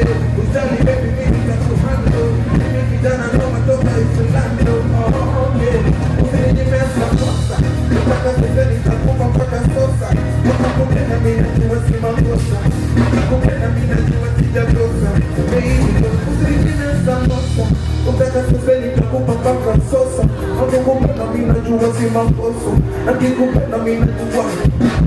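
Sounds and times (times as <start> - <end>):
heavy bass: 0.0 - 25.0
live band playing: 0.0 - 25.0.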